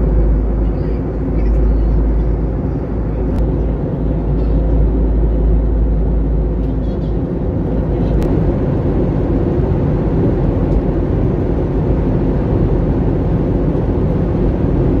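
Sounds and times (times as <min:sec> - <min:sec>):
airliner cabin noise in flight: 0:00.0 - 0:15.0.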